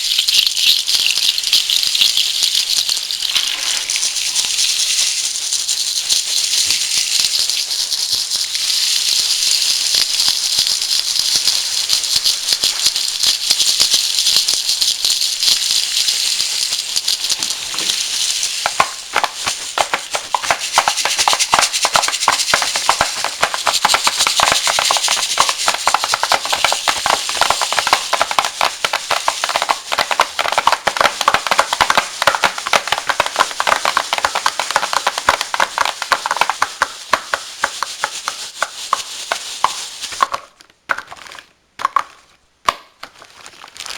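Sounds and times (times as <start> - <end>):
rain stick pebbles trickling: 0.0 - 43.9.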